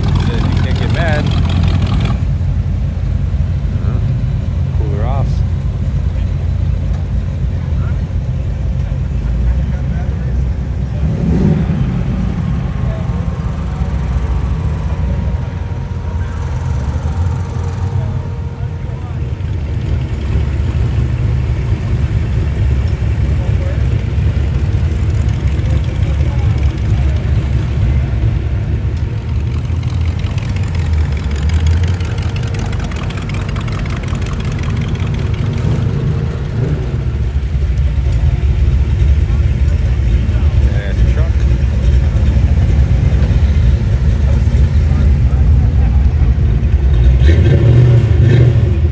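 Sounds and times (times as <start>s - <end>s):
people talking: 0.0s - 2.2s, 3.6s - 29.7s, 30.8s - 48.9s
car engine running: 0.0s - 48.9s.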